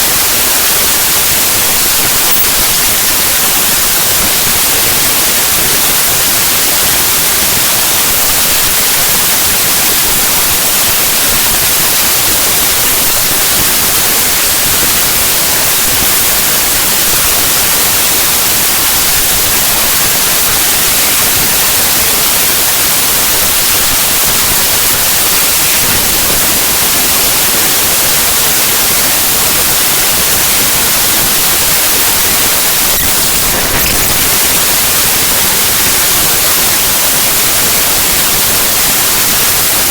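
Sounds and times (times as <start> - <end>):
white noise static hiss: 0.0 - 39.9.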